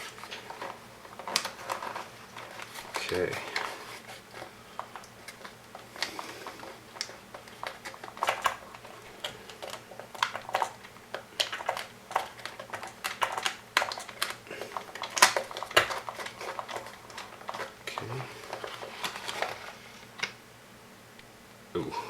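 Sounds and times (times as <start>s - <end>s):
small hard parts clicking: 0.0s - 20.4s.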